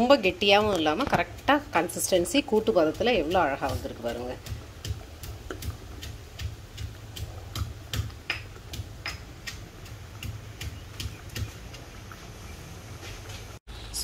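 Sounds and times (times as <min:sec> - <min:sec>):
thick stew bubbling and popping: 0:00.0 - 0:13.6.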